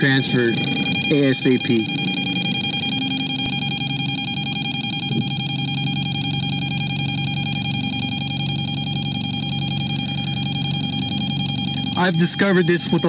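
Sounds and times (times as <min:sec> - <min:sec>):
low steady hum: 0:00.0 - 0:13.0
meter beeping fast: 0:00.0 - 0:13.0.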